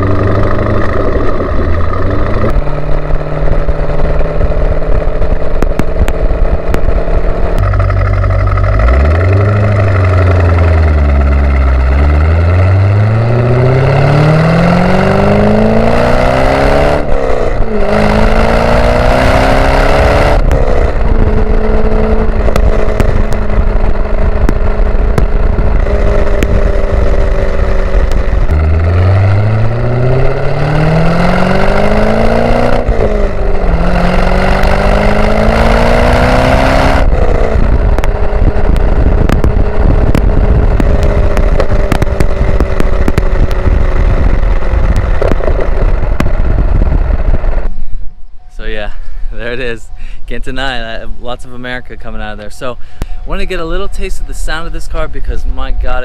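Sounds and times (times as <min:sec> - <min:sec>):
car engine exhaust accelerating: 0:00.0 - 0:56.0.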